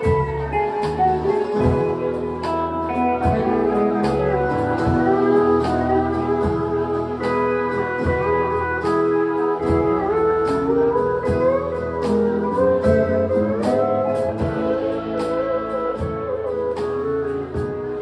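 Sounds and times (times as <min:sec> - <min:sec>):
country band playing: 0:00.0 - 0:18.0
lead guitar sliding notes: 0:00.0 - 0:18.0.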